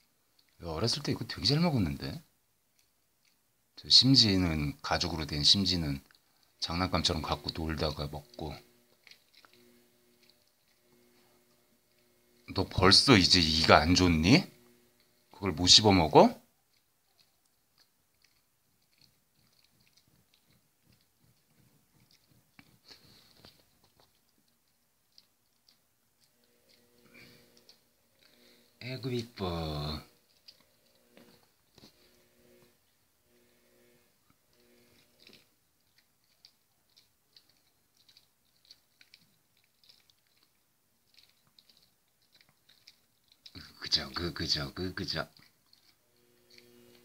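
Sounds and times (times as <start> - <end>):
dog chewing treat: 4.0 - 47.0.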